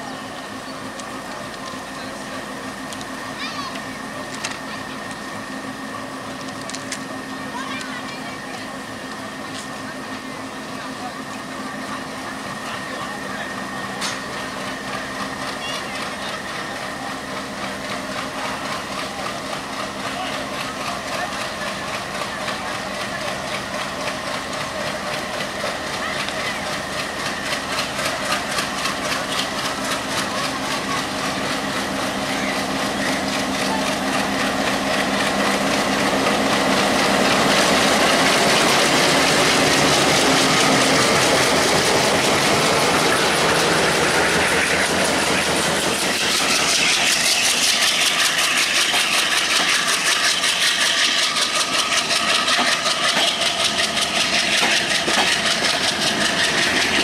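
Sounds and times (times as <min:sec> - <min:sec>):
diesel locomotive engine running: 0:00.0 - 0:57.0
train wheels clattering on rails: 0:00.0 - 0:57.0.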